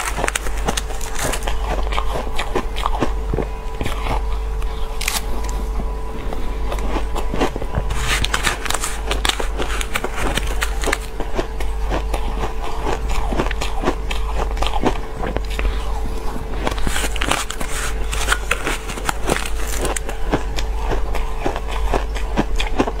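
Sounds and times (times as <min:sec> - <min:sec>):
shaved ice crunching when chewed: 0:00.0 - 0:23.0
steady low hum: 0:00.0 - 0:23.0.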